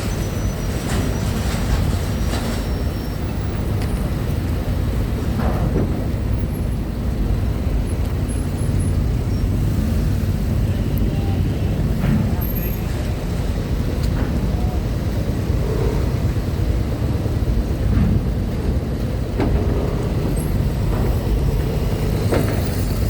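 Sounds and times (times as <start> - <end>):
heavy vehicle engines rumbling: 0.0 - 23.0.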